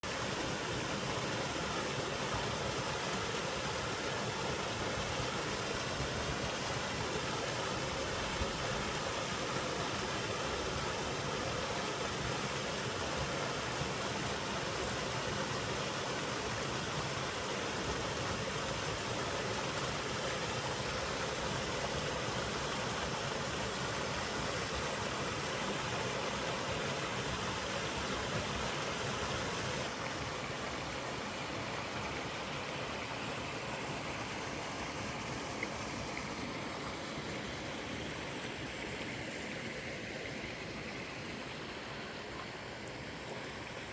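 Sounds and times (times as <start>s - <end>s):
small waterfall rushing: 0.0s - 43.9s.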